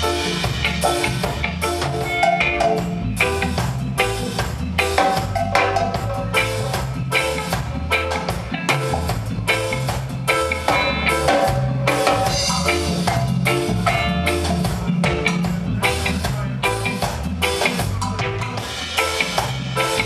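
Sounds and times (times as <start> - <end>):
bass guitar: 0.0 - 20.0
drum kit: 0.0 - 20.0
electric guitar melody: 0.0 - 20.0.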